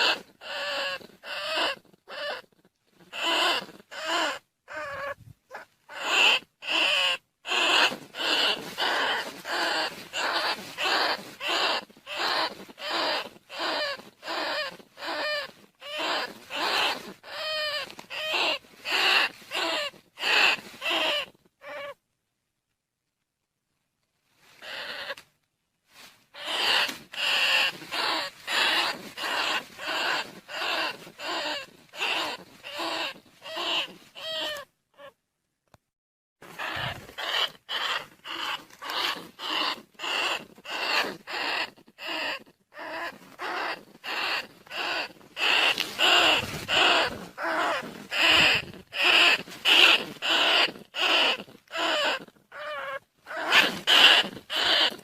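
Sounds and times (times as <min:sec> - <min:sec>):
rats squeaking: 0:00.0 - 0:22.0, 0:24.6 - 0:25.2, 0:26.3 - 0:35.2, 0:36.4 - 0:55.0.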